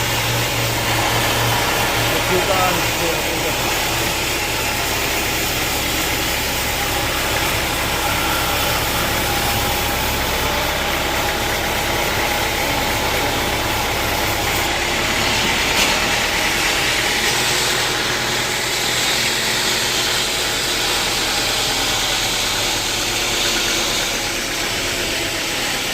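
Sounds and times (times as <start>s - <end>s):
sawmill machinery droning: 0.0s - 25.9s.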